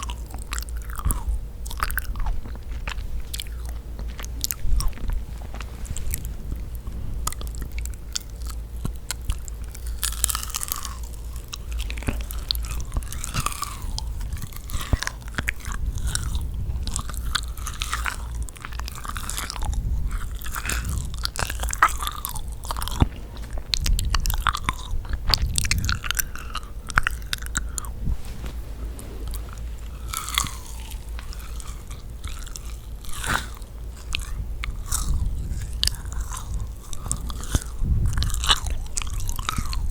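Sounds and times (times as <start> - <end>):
chewing and biting cookies: 0.0 - 39.9.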